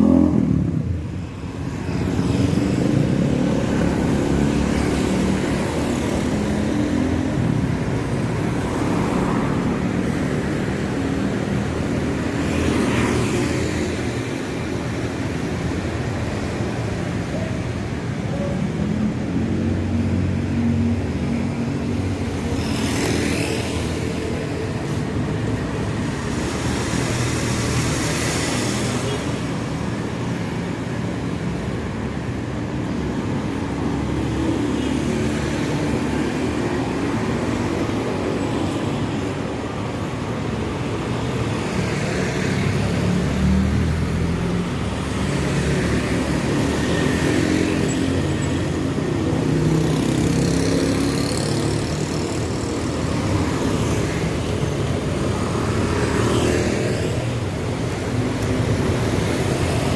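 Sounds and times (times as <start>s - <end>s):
hum of vehicle engines: 0.0s - 59.9s
vehicles passing close by: 0.0s - 59.9s.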